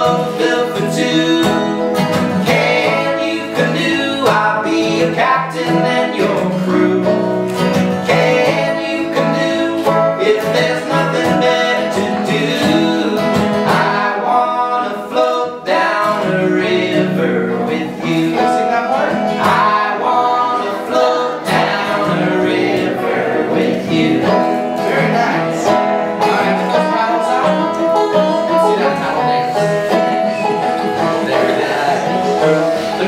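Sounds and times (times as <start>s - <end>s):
acoustic guitar: 0.0s - 33.0s
banjo: 0.0s - 33.0s.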